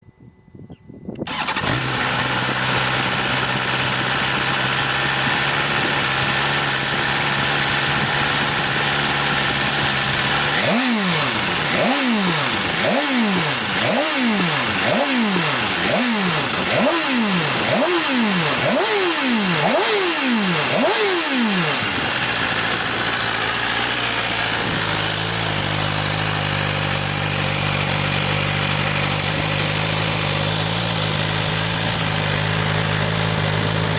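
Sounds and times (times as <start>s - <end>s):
motorcycle engine revving: 1.2s - 33.9s.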